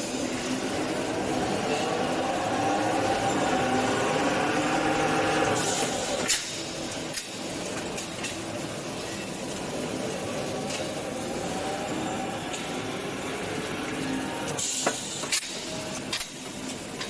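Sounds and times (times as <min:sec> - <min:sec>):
roll-forming machine humming: 0:00.0 - 0:17.0.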